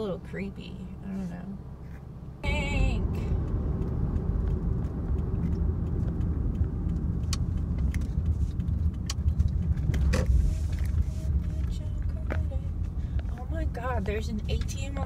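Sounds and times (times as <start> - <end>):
road noise in a car cabin: 0.0 - 15.0.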